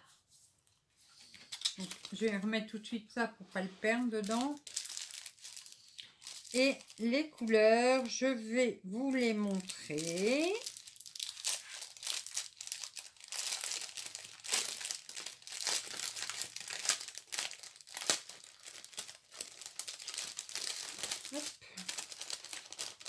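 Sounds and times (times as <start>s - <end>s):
plastic bags crinkling: 1.5s - 2.4s, 4.1s - 8.2s, 9.1s - 23.0s.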